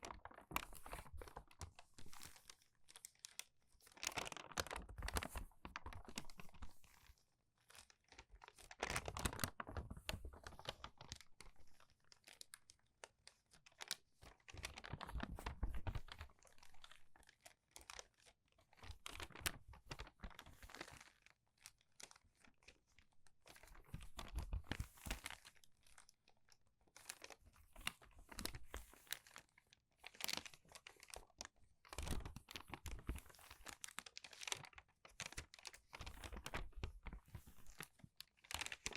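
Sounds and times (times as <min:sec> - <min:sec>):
crumpled paper pages rustling: 0:00.0 - 0:38.9.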